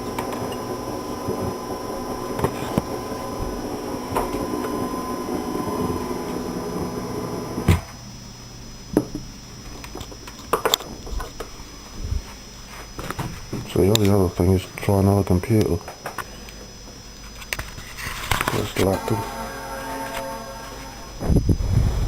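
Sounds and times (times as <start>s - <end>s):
electrical hiss: 0.0s - 22.0s
electrical hum: 0.0s - 22.0s
high electrical whine: 0.0s - 22.0s.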